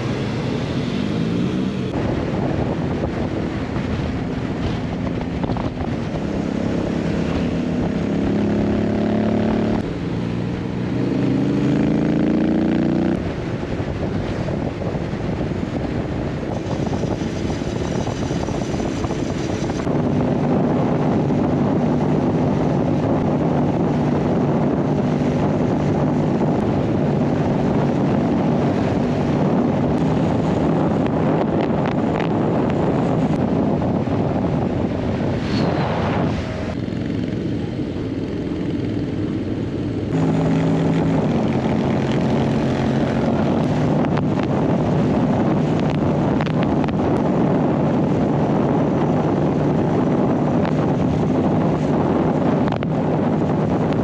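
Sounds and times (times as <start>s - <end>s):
motorcycle engine accelerating: 0.0s - 54.0s
wind noise: 0.0s - 54.0s.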